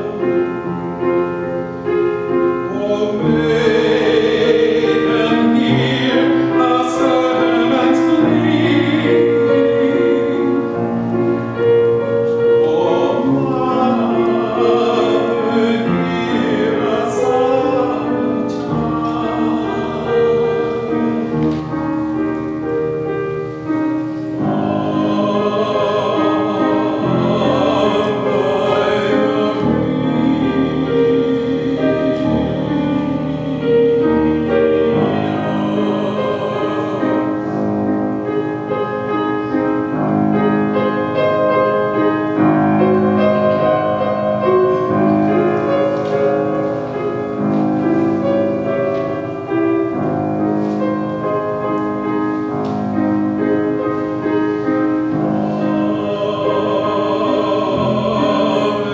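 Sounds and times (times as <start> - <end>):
choir singing: 0.0 - 58.9
church organ: 0.0 - 58.9.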